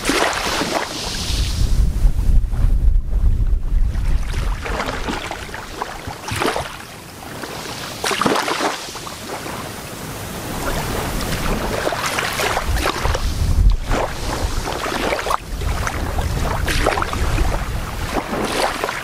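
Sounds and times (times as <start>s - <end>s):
small waves lapping on beach: 0.0s - 1.8s, 3.9s - 19.0s
wind rumble on microphone: 0.0s - 8.3s, 8.9s - 19.0s.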